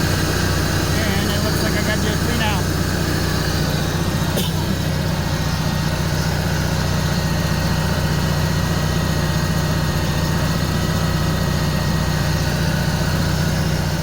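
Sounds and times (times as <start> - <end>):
generator engine running: 0.0 - 14.0.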